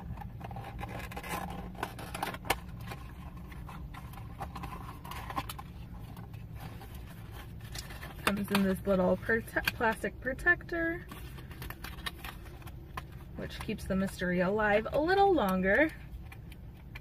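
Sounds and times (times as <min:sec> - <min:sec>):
cardboard and paper rustling: 0:00.0 - 0:17.0
low steady hum: 0:00.0 - 0:17.0.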